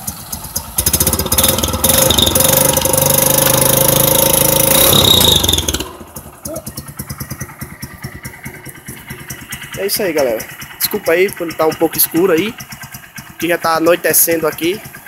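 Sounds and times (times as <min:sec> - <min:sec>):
motorcycle engine idling: 0:00.0 - 0:15.0
motorcycle engine revving: 0:00.0 - 0:15.0.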